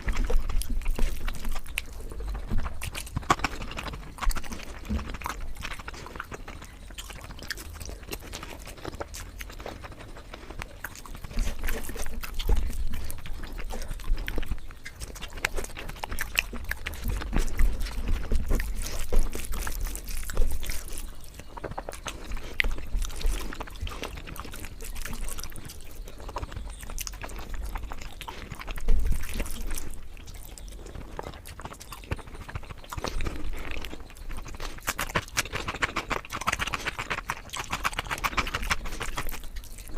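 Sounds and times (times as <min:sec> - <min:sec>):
chewing mouth clicks and smacks: 0:00.0 - 0:39.9.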